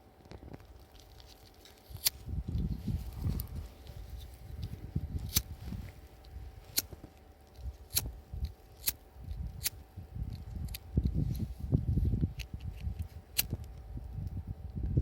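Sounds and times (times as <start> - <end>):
low fire rumble: 0.0 - 15.0.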